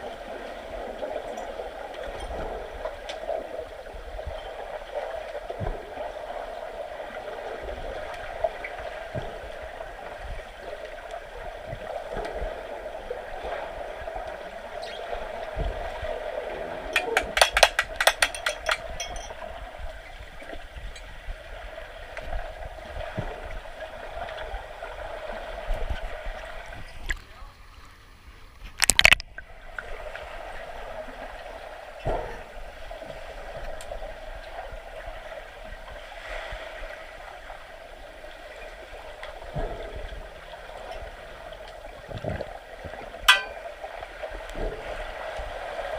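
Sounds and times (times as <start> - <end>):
pool water churning and gurgling: 0.0 - 45.9.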